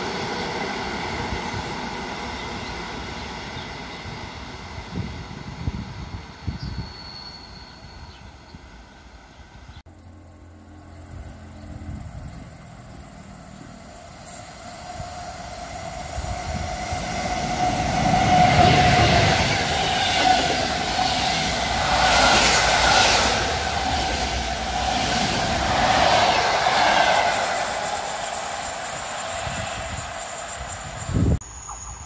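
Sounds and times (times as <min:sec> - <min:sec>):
train coaches rattling past: 0:00.0 - 0:31.8
train wheels rumbling on rails: 0:00.0 - 0:31.8.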